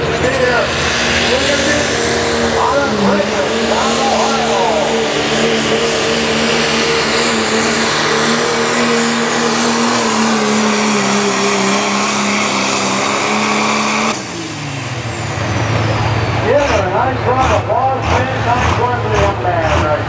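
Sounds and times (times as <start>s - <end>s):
diesel engine running flat out: 0.0s - 20.0s.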